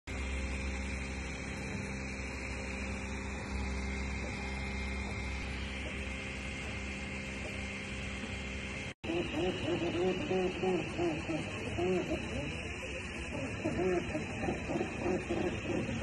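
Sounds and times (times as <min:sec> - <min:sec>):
three d printer whirring hum: 0:00.1 - 0:16.0.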